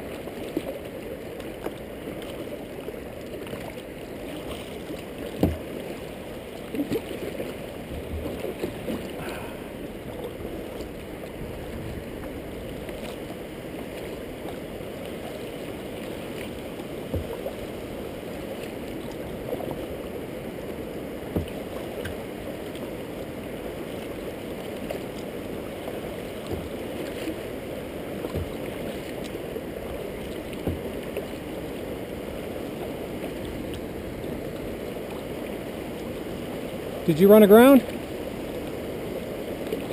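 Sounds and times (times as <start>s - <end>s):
water lapping against kayak hull: 0.0s - 39.9s.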